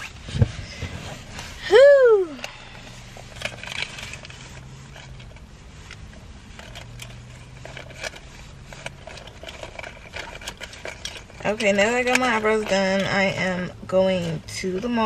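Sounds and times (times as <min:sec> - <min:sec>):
clothing rustling: 0:00.0 - 0:01.9, 0:02.5 - 0:15.0.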